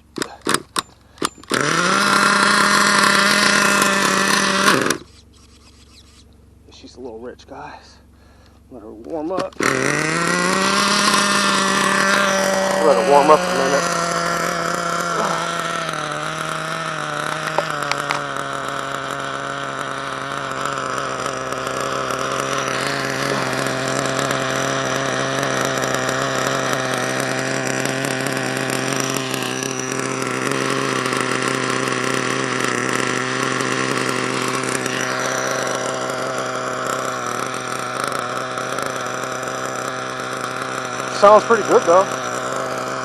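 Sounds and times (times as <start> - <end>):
nitro engine idling: 0.0 - 43.0.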